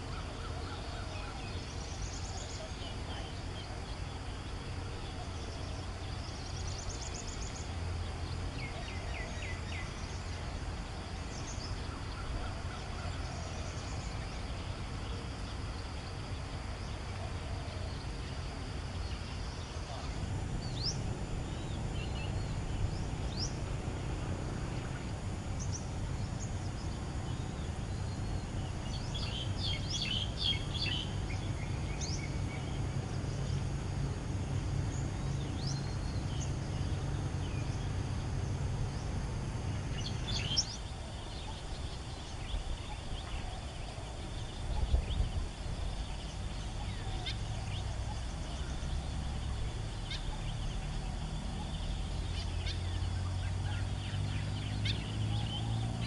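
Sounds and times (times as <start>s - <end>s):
low background rumble: 0.0s - 56.0s
small birds chirping: 0.0s - 56.0s.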